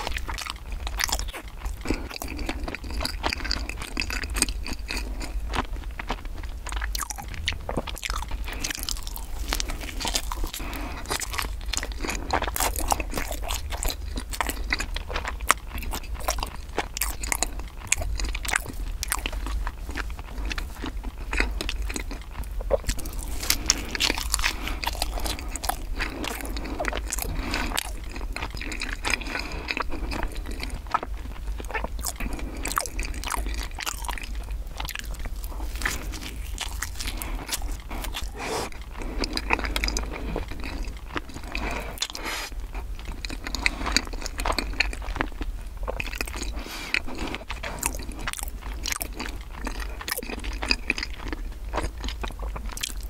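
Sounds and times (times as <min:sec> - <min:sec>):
low hum: 0:00.0 - 0:50.0
chewing flaky pastry: 0:00.0 - 0:53.0.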